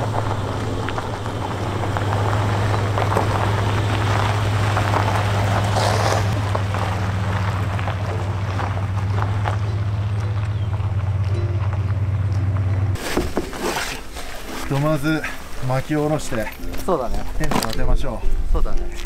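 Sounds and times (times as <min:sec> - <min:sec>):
van engine hum: 0:00.0 - 0:17.3
tyres crackling over gravel: 0:00.0 - 0:19.0.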